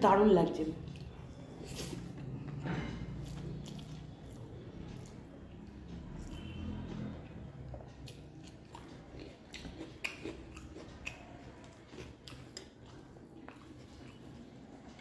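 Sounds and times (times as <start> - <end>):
person chewing: 0.9 - 6.5, 7.6 - 15.0.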